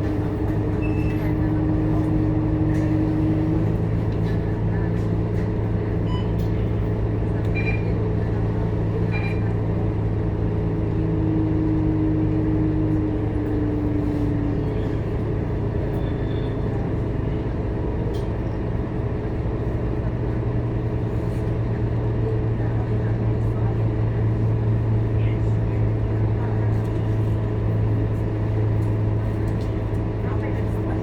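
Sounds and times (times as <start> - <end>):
bus diesel engine humming: 0.0 - 31.0.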